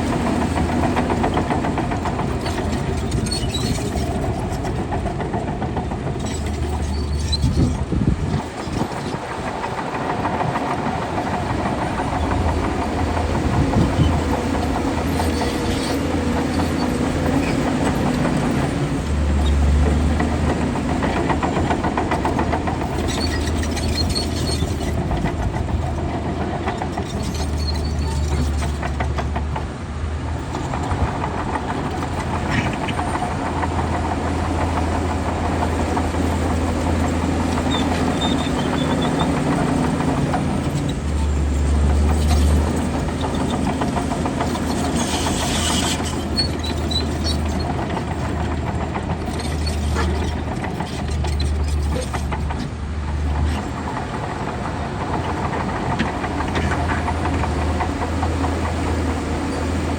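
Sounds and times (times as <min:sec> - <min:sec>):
bulldozer diesel engine under load: 0:00.0 - 0:59.9
metallic knocks from crawler tracks: 0:00.0 - 0:59.9.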